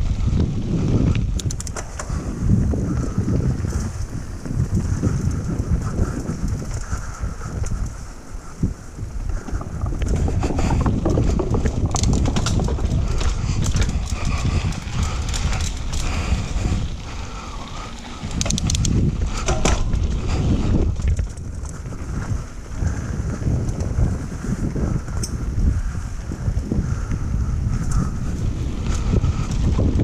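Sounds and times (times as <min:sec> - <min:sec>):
bike clattering and rattling: 0:00.0 - 0:30.0
bike tyres rumbling on dirt: 0:00.0 - 0:30.0
wind buffeting microphone: 0:00.0 - 0:30.0.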